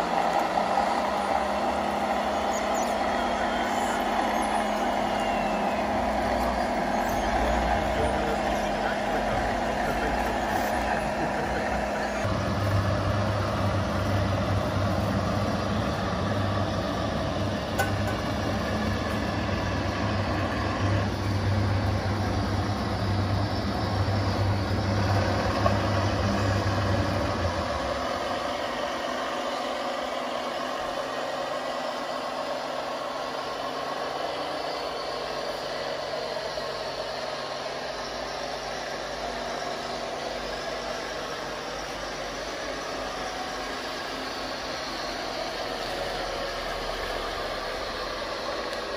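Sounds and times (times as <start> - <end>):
simulated diesel truck engine idling: 0.0 - 48.9.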